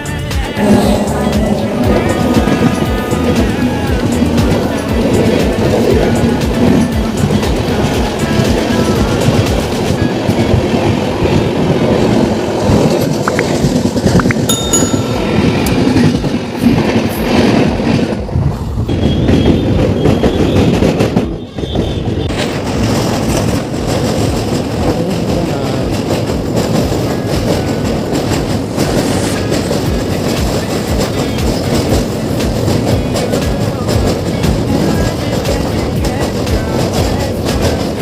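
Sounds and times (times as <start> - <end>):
train wheels rolling on rails: 0.2 - 38.0.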